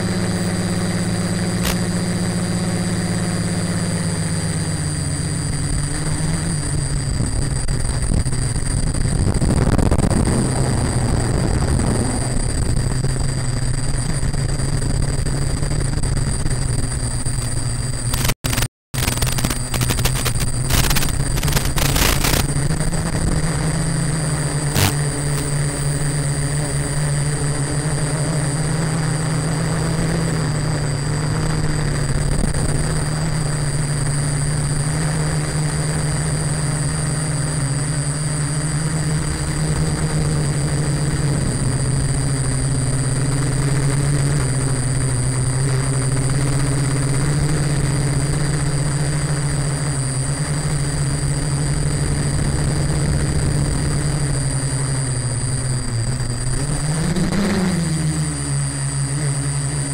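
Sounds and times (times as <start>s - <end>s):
drone propellers droning: 0.0s - 59.9s
faint high whine: 0.0s - 59.9s.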